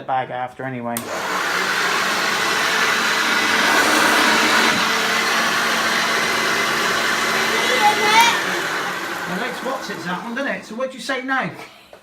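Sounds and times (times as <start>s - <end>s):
vacuum cleaner running: 1.0s - 10.8s.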